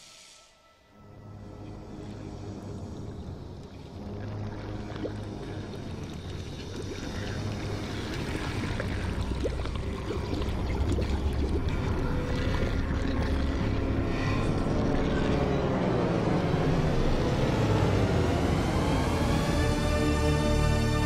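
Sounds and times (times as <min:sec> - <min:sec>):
low rumbling cinematic drone: 0:01.0 - 0:21.0.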